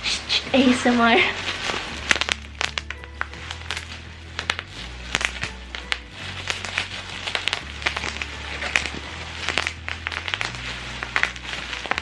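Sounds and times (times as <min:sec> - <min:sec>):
plastic packaging crinkling: 0:01.4 - 0:12.0.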